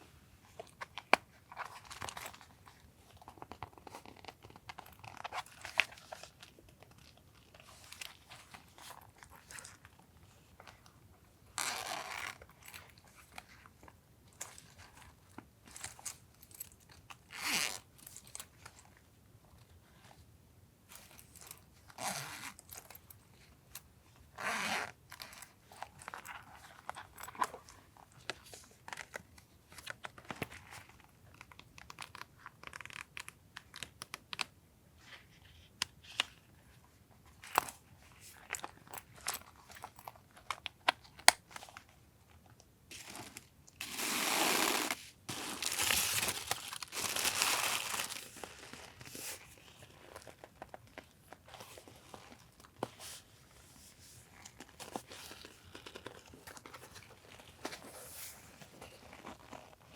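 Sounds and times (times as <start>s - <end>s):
wrapping rustling and crinkling: 0.4s - 20.2s, 20.9s - 59.9s.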